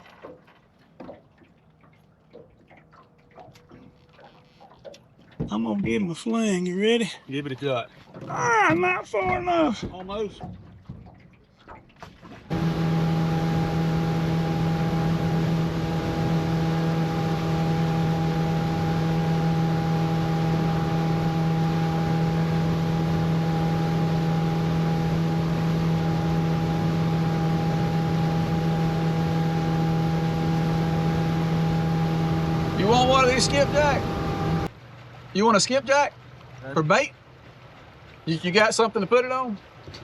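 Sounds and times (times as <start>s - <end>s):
boat motor humming: 0.0s - 40.0s
wind and water noise: 0.0s - 40.0s.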